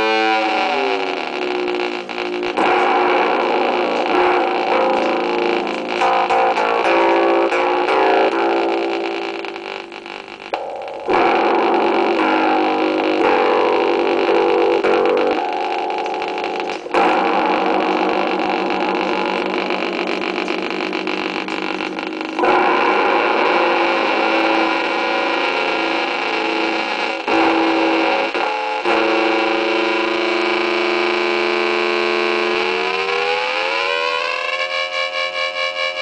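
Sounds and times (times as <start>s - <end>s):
ring modulator tones through speaker: 0.0s - 36.0s.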